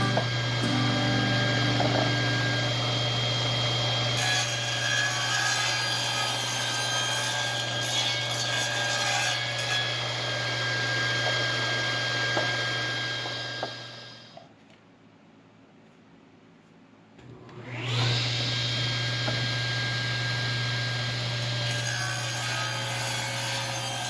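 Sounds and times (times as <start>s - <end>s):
saw blade cutting wood: 0.0s - 14.3s, 17.7s - 24.0s
table saw motor whine: 0.0s - 14.4s, 17.3s - 24.0s.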